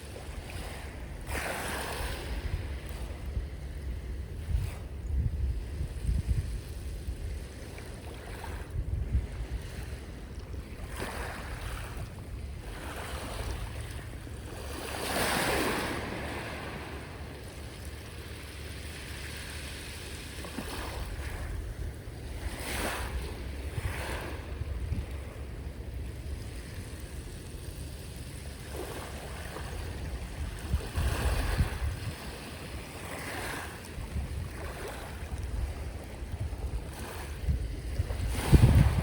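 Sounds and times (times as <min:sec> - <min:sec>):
ocean waves breaking on shore: 0:00.0 - 0:39.0
wind rumble on microphone: 0:00.0 - 0:39.0.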